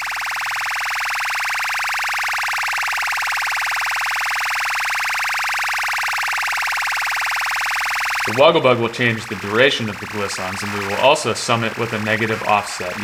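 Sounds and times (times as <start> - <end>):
buzzing synthesizer grains: 0.0 - 13.0.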